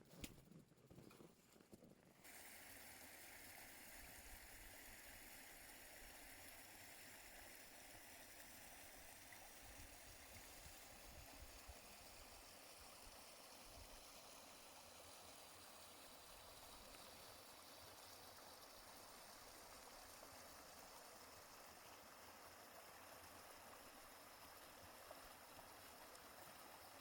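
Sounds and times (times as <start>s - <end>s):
stream water flowing: 2.2s - 27.0s.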